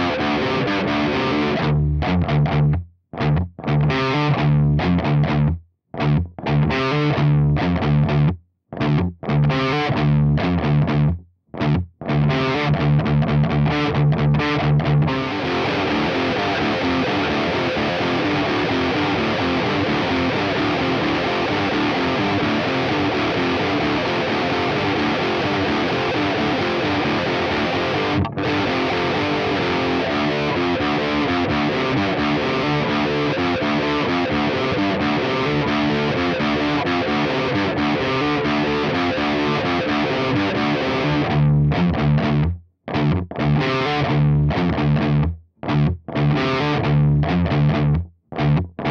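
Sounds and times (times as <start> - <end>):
distorted electric guitar riffing: 0.0 - 48.9.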